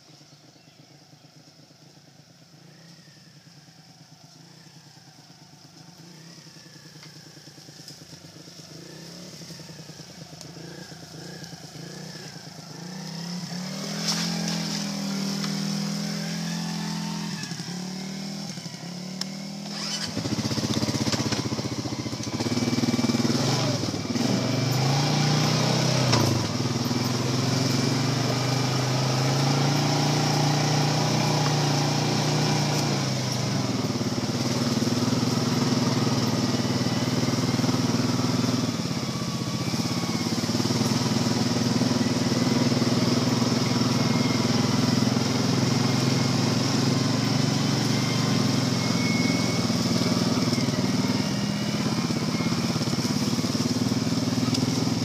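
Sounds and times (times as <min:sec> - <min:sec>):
atv engines running: 0:00.0 - 0:55.0.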